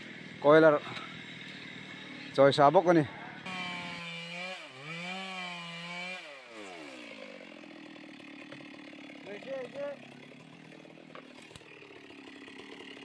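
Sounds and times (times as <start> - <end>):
chainsaw revving: 0.0 - 2.4, 3.4 - 13.0.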